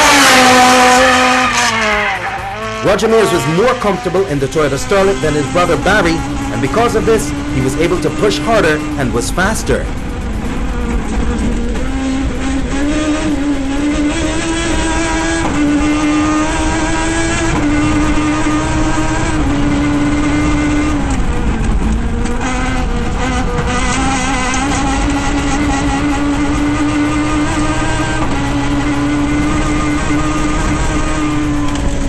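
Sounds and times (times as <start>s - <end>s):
rally car engine changing gear: 0.0s - 32.0s.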